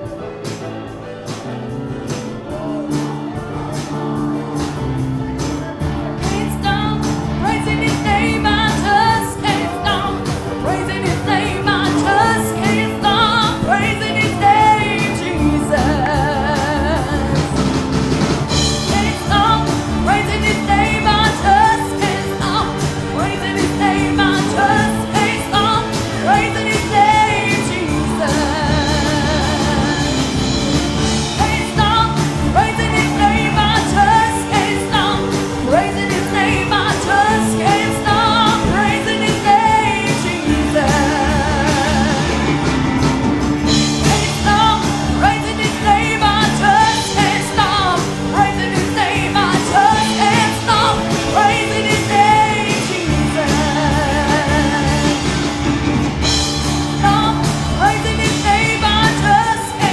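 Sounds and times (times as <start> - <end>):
band playing steady beat: 0.0 - 59.9
gospel singers with vibrato: 1.8 - 59.9.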